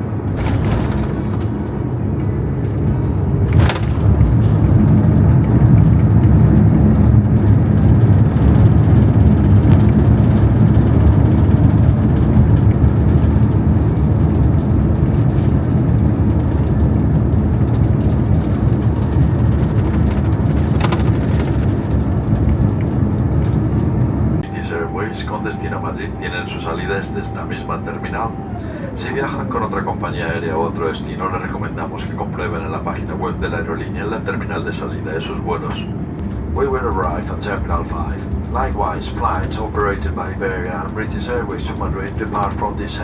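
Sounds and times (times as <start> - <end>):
engine and airflow roar: 0.0 - 43.0.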